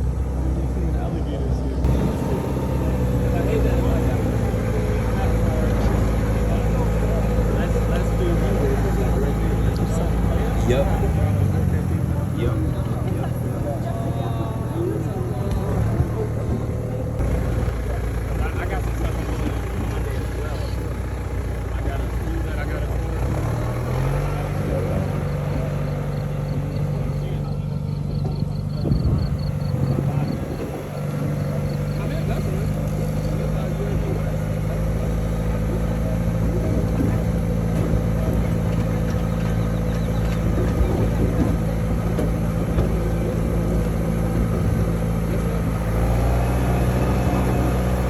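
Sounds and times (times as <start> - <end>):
road noise: 0.0 - 48.0
vehicle engine humming: 0.0 - 48.0.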